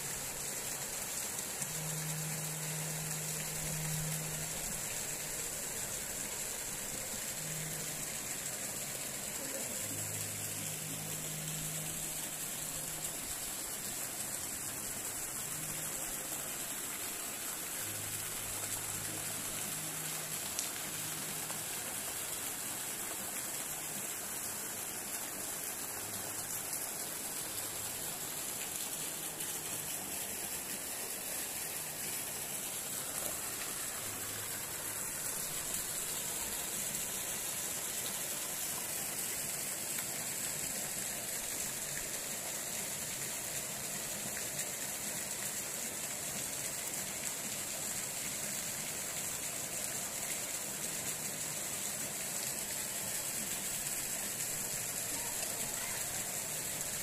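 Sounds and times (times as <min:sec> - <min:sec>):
fountain water rushing: 0:00.0 - 0:57.0.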